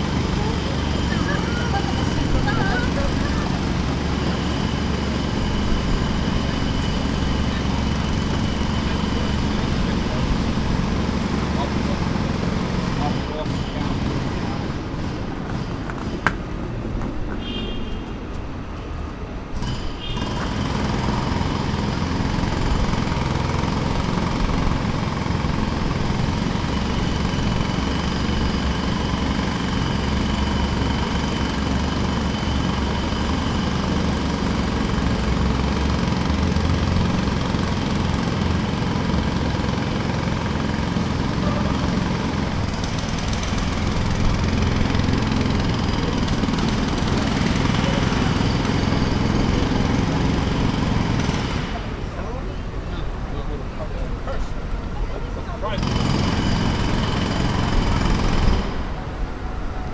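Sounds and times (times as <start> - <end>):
jackhammer running: 0.0 - 16.8, 19.4 - 59.9.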